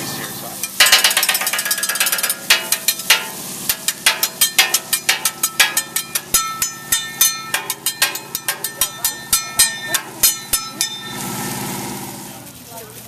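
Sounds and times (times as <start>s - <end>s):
metal spatula clacking on griddle: 0.6s - 11.3s.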